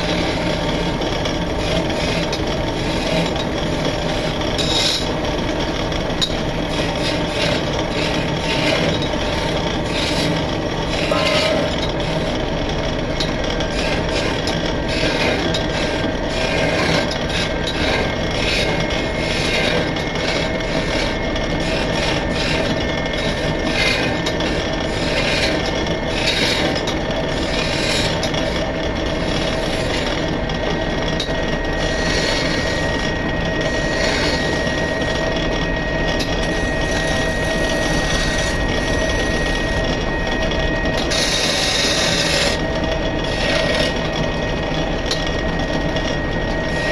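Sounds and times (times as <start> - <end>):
chisel scraping spinning wood: 0.0 - 35.4, 36.0 - 44.3
lathe motor hum: 0.0 - 46.9.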